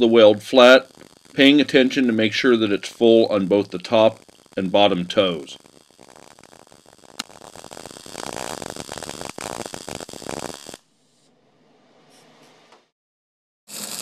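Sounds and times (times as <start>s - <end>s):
welding arc crackling: 0.0s - 10.9s, 13.7s - 14.0s.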